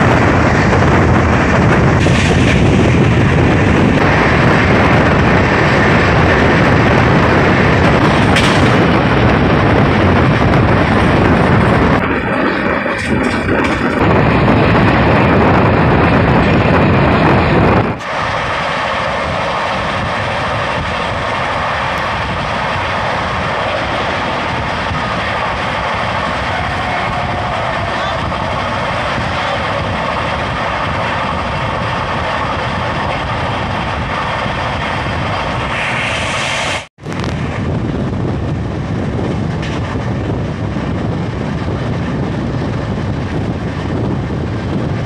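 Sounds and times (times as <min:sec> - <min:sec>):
train wheels on rail and wind: 0:00.0 - 0:45.0.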